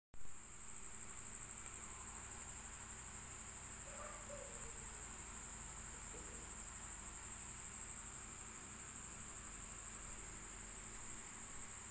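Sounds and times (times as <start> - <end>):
high-pitched insect trill: 0.2 - 11.9.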